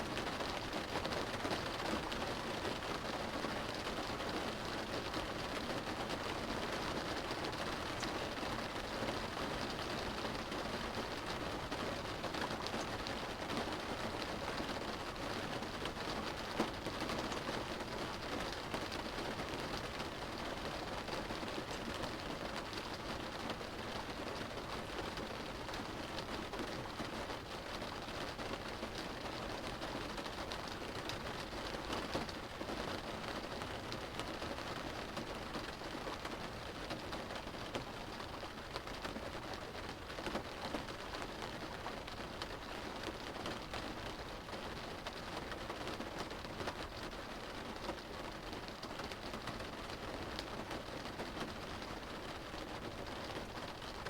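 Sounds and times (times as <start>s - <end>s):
rain drumming on car roof: 0.1s - 54.0s.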